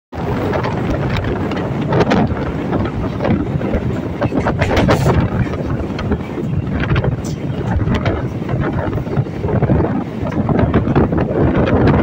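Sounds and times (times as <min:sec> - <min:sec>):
train wheels rumbling on rails: 0:00.1 - 0:12.0
wind buffeting microphone: 0:00.1 - 0:12.0.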